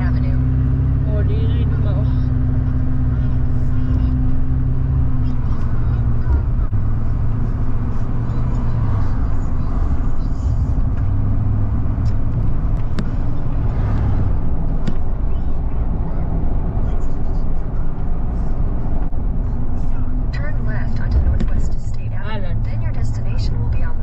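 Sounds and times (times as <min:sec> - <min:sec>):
car engine rumble: 0:00.0 - 0:24.0
road noise: 0:00.0 - 0:24.0.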